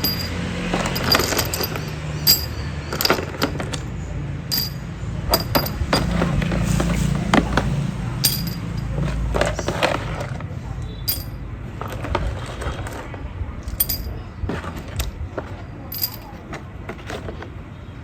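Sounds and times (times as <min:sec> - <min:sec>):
metallic clinks and knocks: 0:00.0 - 0:10.0, 0:11.1 - 0:17.3.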